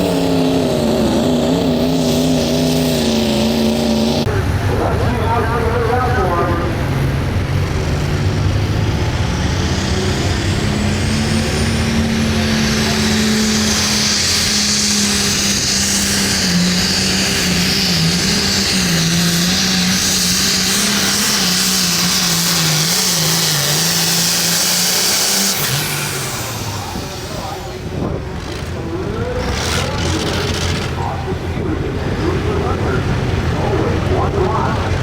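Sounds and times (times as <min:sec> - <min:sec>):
diesel engine at full power: 0:00.0 - 0:35.0.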